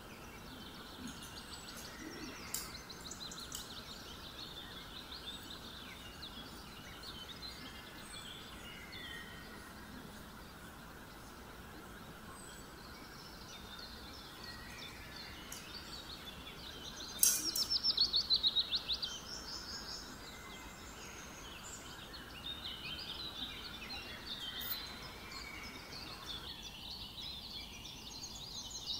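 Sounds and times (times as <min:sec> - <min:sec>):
birds chirping: 0:00.0 - 0:28.9
low background hiss: 0:00.0 - 0:28.9.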